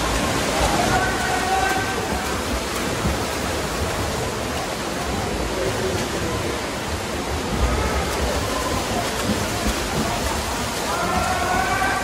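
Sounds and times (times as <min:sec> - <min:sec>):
rushing water hiss: 0:00.0 - 0:12.0.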